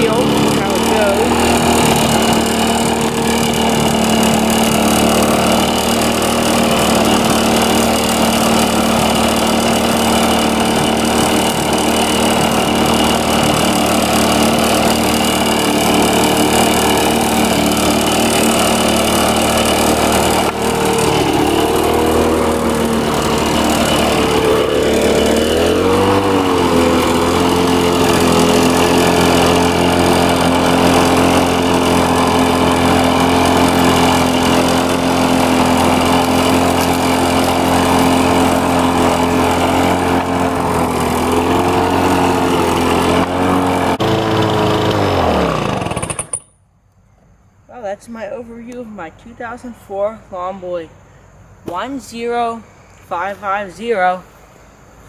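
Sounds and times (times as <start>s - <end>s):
lawn mower engine running: 0.0s - 46.6s.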